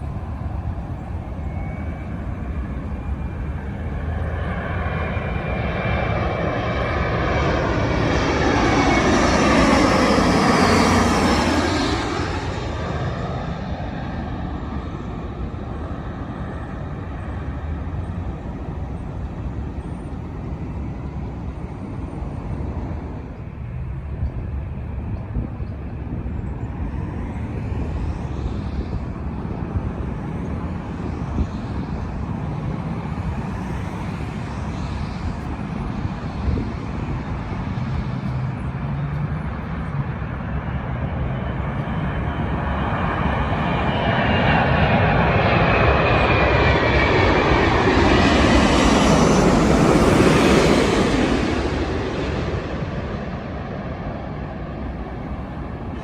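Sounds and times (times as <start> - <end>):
distant jet aircraft: 0.0 - 56.0
road traffic rumble: 0.0 - 56.0.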